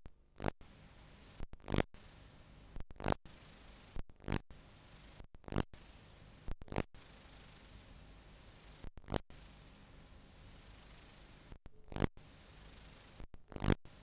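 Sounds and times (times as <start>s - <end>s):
videotape hiss: 0.1s - 14.0s.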